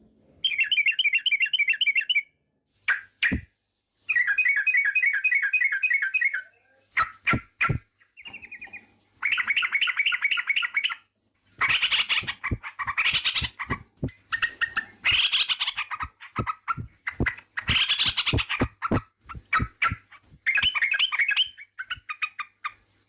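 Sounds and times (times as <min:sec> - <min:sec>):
bird chattering song: 0:00.4 - 0:02.3, 0:04.1 - 0:22.9.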